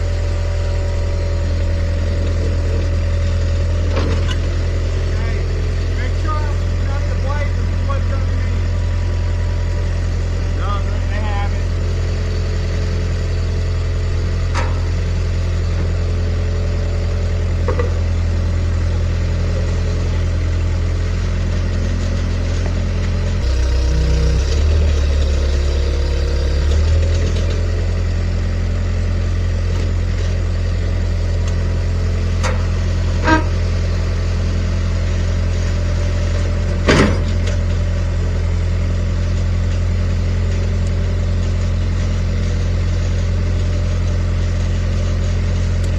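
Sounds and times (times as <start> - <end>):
vehicle engine running: 0.0 - 36.8.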